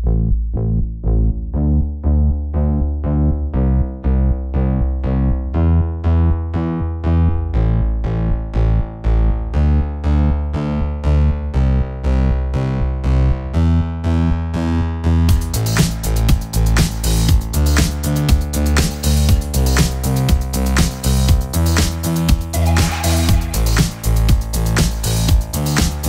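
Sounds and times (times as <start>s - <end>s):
low bass line: 0.0s - 26.0s.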